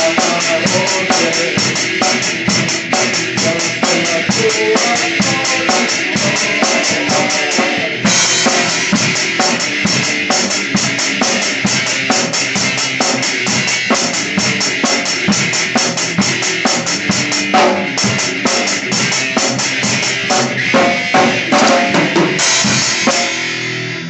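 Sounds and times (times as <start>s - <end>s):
drum kit rock beat: 0.0s - 24.0s.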